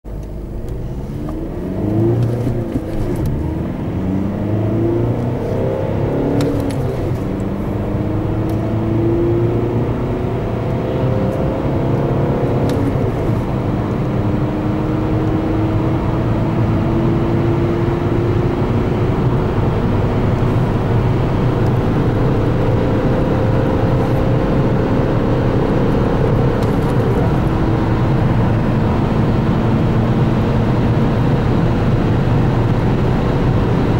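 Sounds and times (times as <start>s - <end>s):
diesel engine accelerating: 0.1s - 33.9s.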